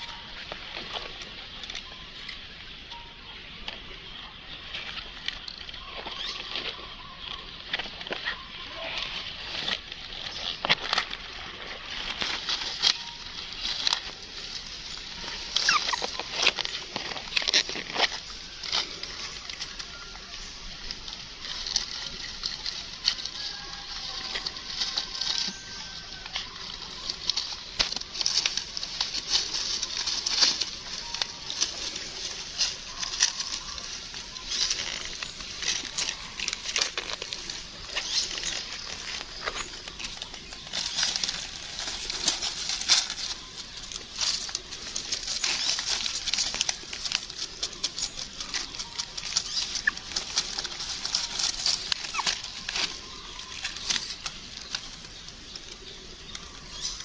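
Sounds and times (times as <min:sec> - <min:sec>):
small animals scrambling: 0:00.0 - 0:57.0.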